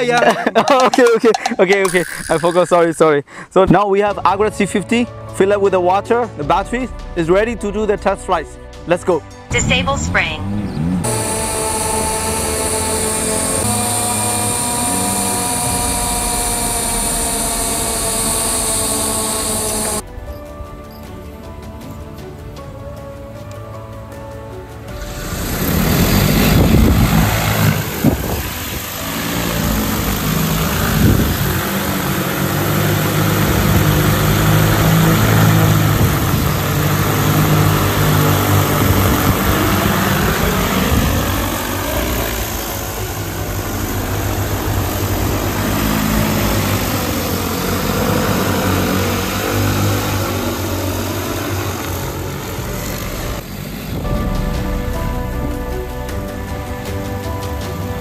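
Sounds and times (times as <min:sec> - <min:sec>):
drone rotors humming: 0:01.0 - 0:03.0, 0:09.5 - 0:21.5, 0:24.9 - 0:58.0.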